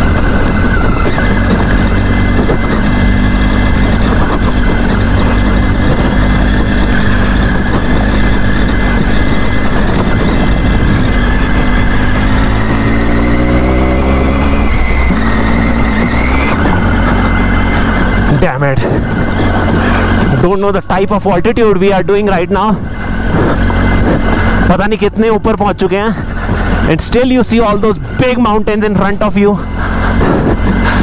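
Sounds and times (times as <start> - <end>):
motorcycle engine running: 0.0 - 31.0
wind and road noise: 0.0 - 31.0.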